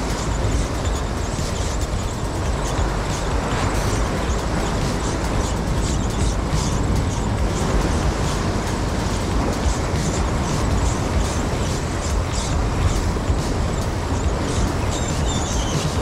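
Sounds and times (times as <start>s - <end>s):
rough surf: 0.0s - 16.0s
wind: 0.0s - 16.0s.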